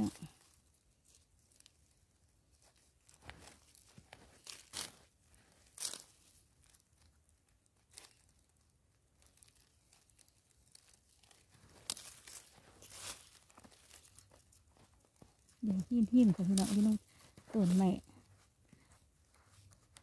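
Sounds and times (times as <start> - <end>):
gloved hand scraping dry soil: 0.0 - 20.0.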